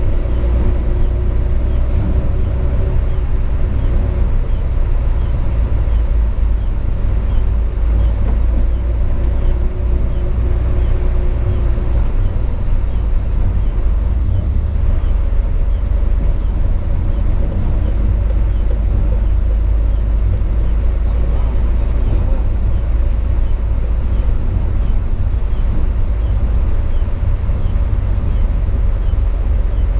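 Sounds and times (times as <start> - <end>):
road noise: 0.0 - 29.9
truck diesel engine rumble: 0.0 - 29.9.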